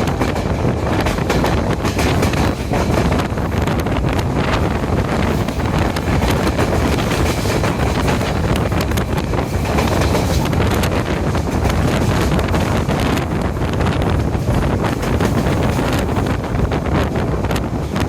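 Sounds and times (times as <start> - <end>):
train running at speed: 0.0 - 18.0
wind rushing over microphone: 0.0 - 18.0.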